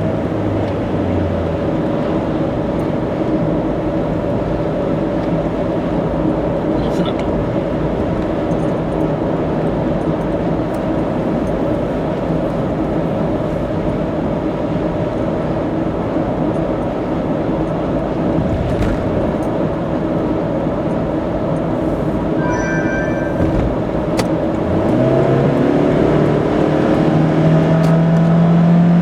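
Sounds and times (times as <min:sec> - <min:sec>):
car engine and tyre road noise: 0:00.0 - 0:29.0.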